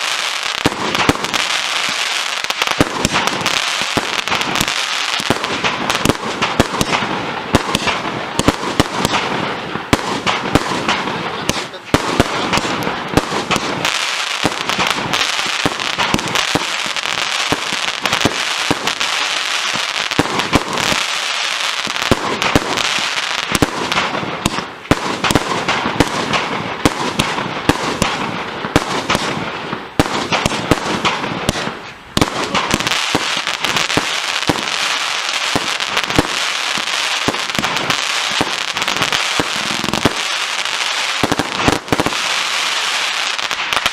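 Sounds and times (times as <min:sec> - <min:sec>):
firework crackling: 0:00.0 - 0:43.9
firework launches and bangs: 0:00.0 - 0:43.9.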